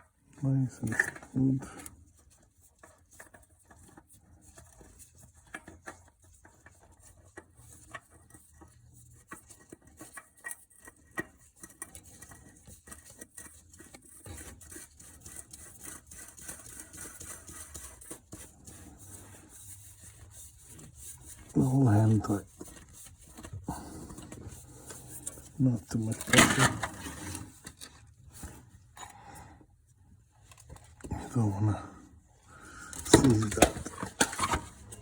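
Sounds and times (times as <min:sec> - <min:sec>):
oil filter clicking and rubbing: 0:00.0 - 0:31.5, 0:32.2 - 0:35.0.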